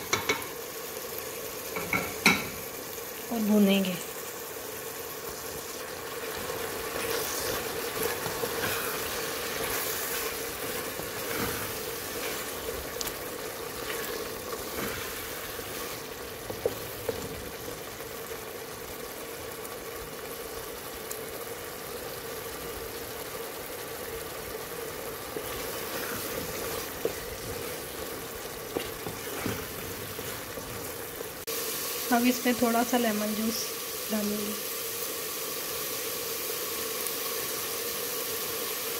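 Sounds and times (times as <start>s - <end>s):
liver sizzling in pan: 0.0s - 38.9s.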